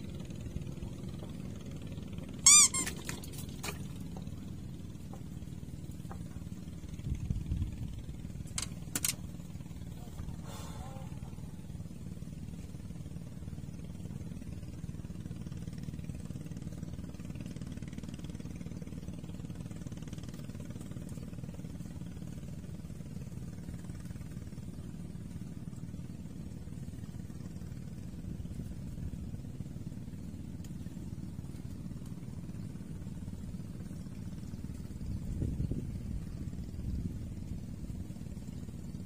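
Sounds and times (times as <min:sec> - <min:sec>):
motor humming steadily: 0:00.0 - 0:39.0.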